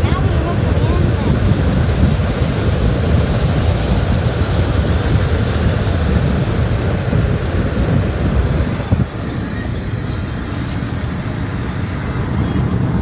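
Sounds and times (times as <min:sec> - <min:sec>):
car driving at speed: 0:00.0 - 0:13.0.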